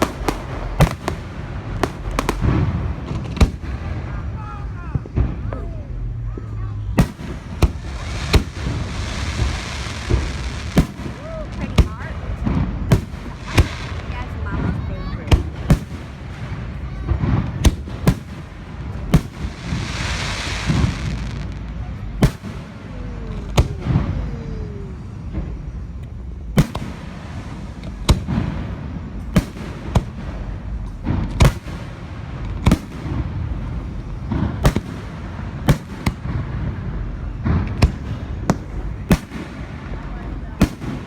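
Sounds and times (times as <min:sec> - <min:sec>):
crackling hiss of firework: 0:00.0 - 0:41.0
fireworks bursting with booming bangs: 0:00.0 - 0:41.0.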